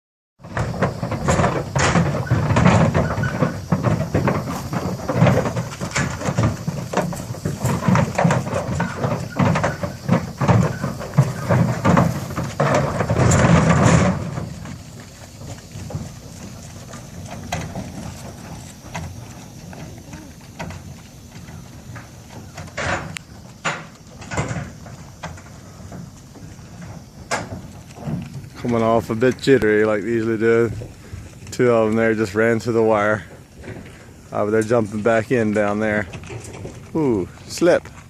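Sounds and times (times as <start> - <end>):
hooves clattering on metal: 0.4 - 38.0.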